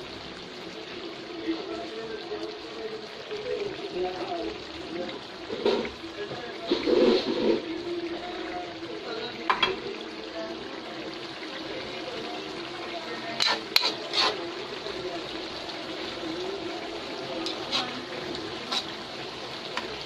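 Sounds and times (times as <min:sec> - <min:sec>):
pot simmering with bubbling: 0:00.0 - 0:20.0.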